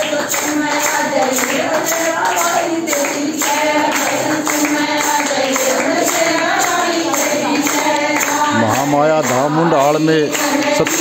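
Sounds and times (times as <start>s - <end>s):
group singing devotional song: 0.0s - 11.0s
hand clapping: 0.0s - 11.0s
jingling percussion beat: 0.0s - 11.0s.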